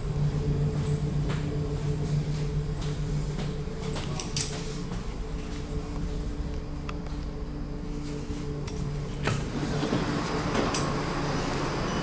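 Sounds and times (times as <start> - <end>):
electric train rumble and hum: 0.0 - 12.0.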